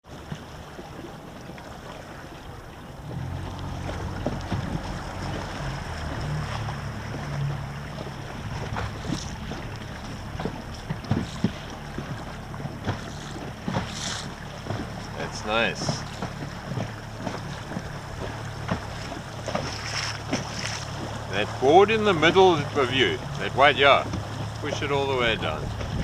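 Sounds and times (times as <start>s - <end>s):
water lapping against boat hull: 0.0s - 26.0s
wind rumbling on microphone: 1.9s - 21.4s, 23.2s - 26.0s.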